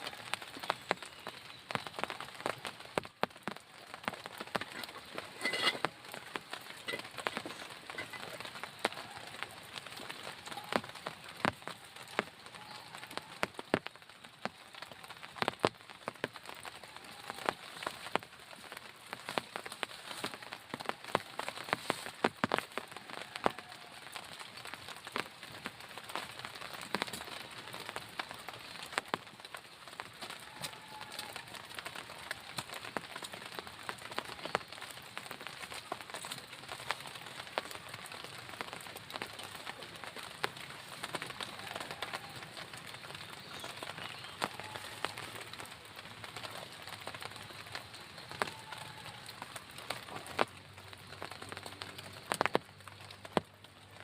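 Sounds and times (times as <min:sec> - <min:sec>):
heavy rain: 0:00.0 - 0:54.0
raindrops striking a surface: 0:00.0 - 0:54.0.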